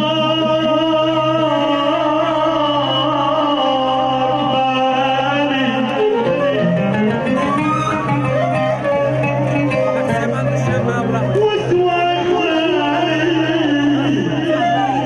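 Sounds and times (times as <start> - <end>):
singer holding long note: 0.0 - 15.0.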